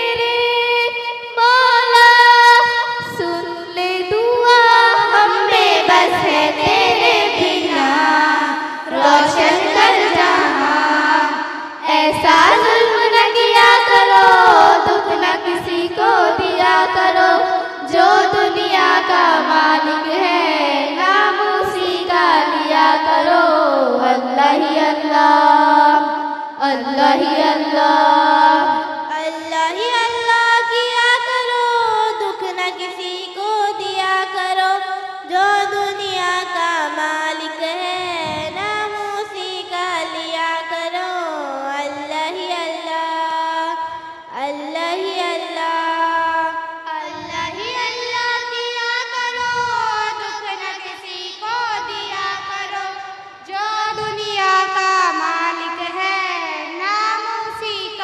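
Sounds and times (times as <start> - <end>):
girls singing through a pa: 0.0 - 58.0.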